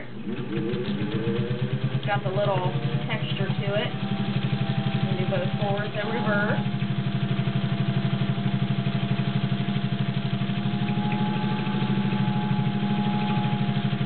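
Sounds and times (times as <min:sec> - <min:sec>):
motor whine: 0:00.0 - 0:14.0
sewing machine stitching: 0:00.0 - 0:14.0.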